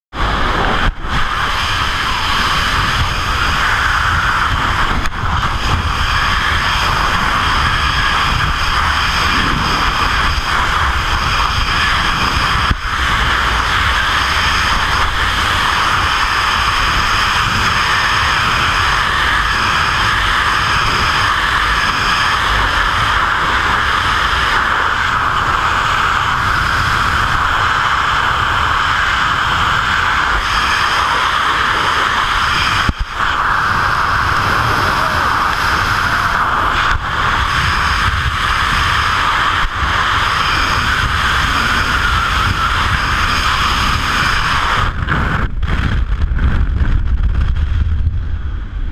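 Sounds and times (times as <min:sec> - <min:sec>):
wind rushing over microphone: 0:00.1 - 0:48.9.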